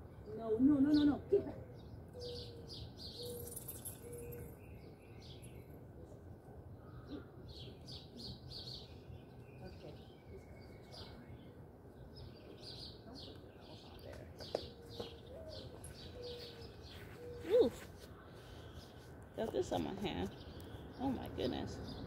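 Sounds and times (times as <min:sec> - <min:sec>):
faint low outdoor hum: 0:00.0 - 0:22.0
small birds chirping: 0:00.0 - 0:22.0.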